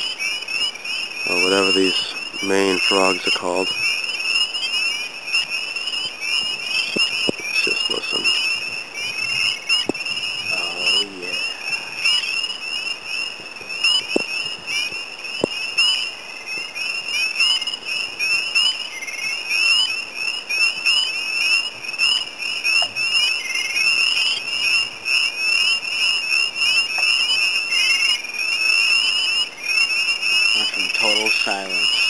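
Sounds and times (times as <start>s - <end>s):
frogs peeping: 0.0s - 32.0s.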